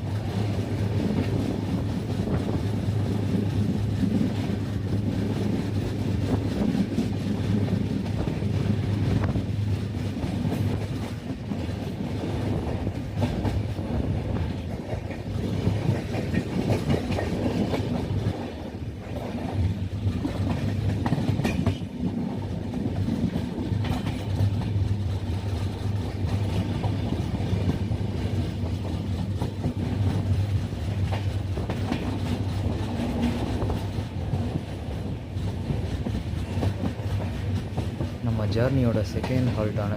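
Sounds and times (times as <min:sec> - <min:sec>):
train rumbling: 0:00.0 - 0:39.9
wheels clattering over rails: 0:00.3 - 0:38.2.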